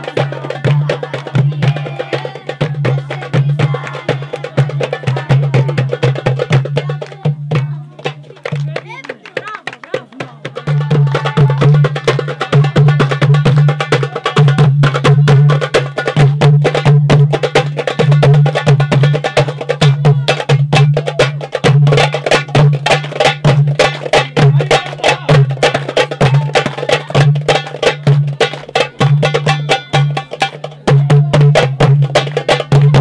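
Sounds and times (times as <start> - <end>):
goblet drums playing: 0.0 - 33.0.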